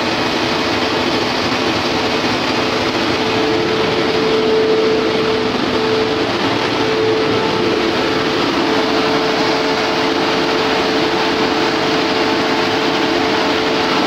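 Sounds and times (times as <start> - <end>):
diesel generator engine running: 0.0 - 14.0
steady whine: 0.0 - 14.0.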